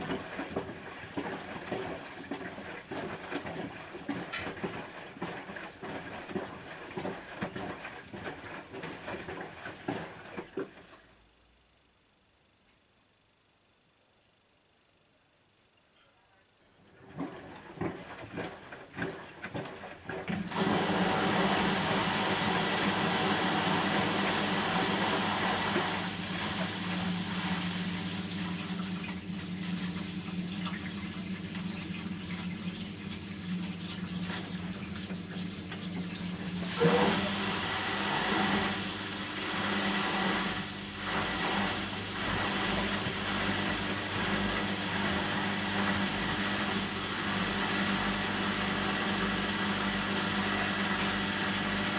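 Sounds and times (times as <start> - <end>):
washing machine motor hum: 0.0 - 10.8, 16.8 - 51.9.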